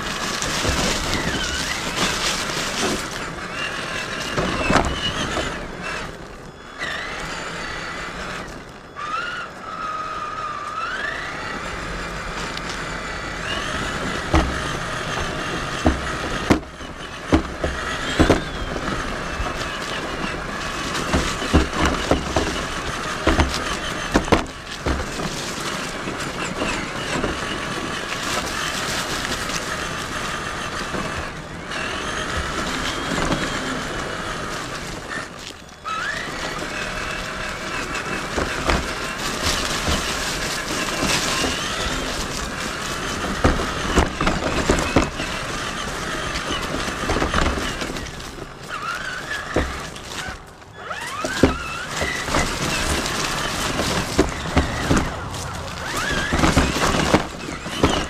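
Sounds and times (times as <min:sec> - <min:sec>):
electric motor and gearbox whine: 0:00.0 - 0:58.0
tyres crunching on stones: 0:00.0 - 0:58.0.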